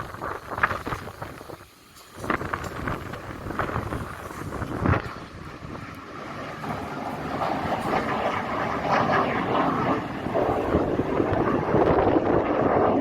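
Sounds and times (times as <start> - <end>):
jet aircraft engine: 0.0 - 13.0.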